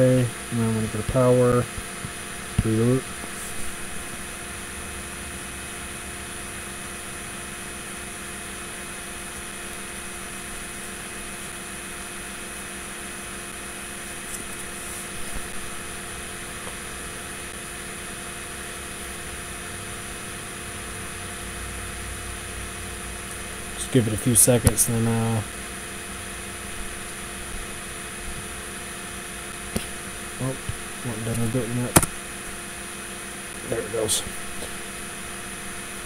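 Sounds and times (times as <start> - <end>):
low electrical hum and hiss: 0.0 - 36.0.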